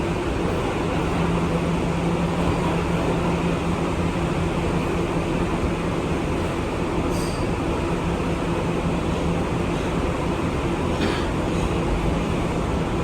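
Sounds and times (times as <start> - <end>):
subway wheels rumbling: 0.0 - 13.0.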